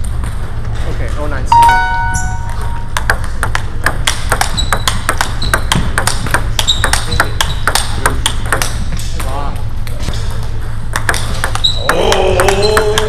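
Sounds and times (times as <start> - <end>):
steady low hum: 0.0 - 13.0
table tennis balls clicking: 2.4 - 13.0.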